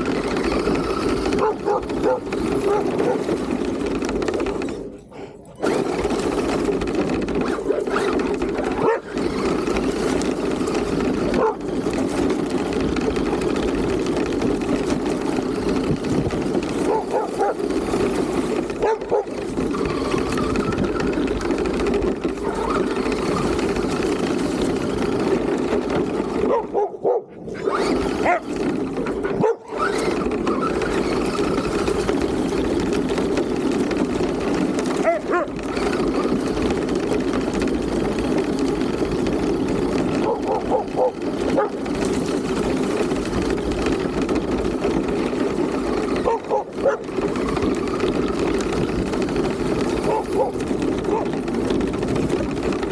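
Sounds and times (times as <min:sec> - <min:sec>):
rc car drivetrain whirring: 0:00.0 - 0:52.9
dogs yipping and barking: 0:00.1 - 0:38.4, 0:39.2 - 0:48.8, 0:49.4 - 0:51.8.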